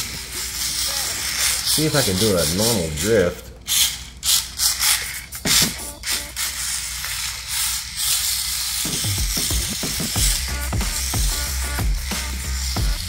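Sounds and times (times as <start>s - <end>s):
small electric motor and gears whirring: 0.0s - 13.0s.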